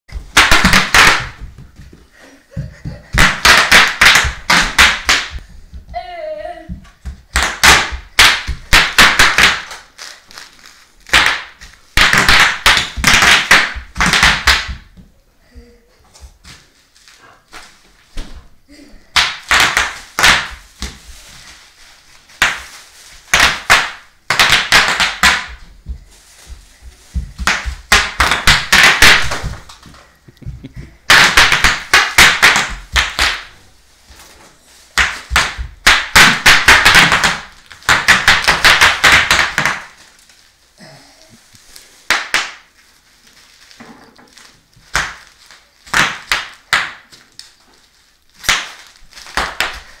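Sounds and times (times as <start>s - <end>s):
bubble wrap popping: 0.1s - 1.9s, 2.6s - 6.0s, 6.7s - 15.0s, 19.1s - 40.7s, 41.4s - 50.0s.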